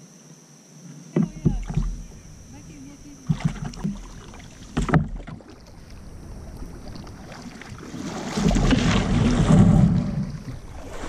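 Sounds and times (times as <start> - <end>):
paddle strokes splashing water: 1.2 - 11.0
rush of water and hull noise: 1.2 - 11.0.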